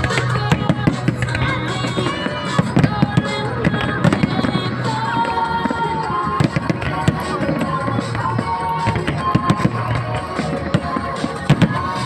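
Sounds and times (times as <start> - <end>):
fireworks bangs and crackles: 0.0 - 12.0
song from loudspeakers: 0.0 - 12.0.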